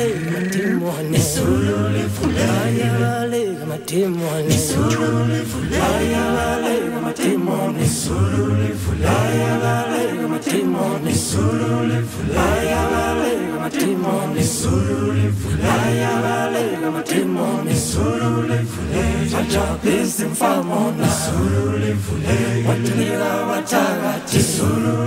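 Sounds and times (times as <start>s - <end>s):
male group singing a cappella: 0.0s - 25.0s.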